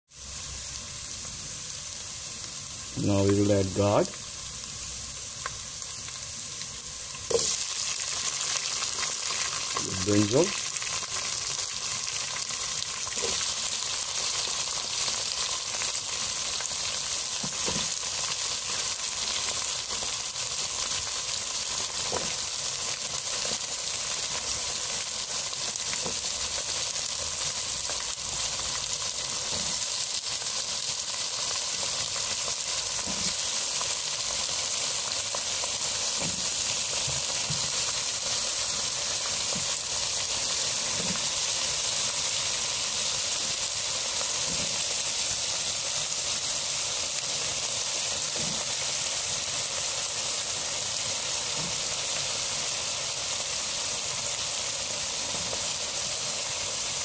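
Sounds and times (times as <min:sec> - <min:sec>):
vegetables sizzling in oil: 0:00.1 - 0:57.0.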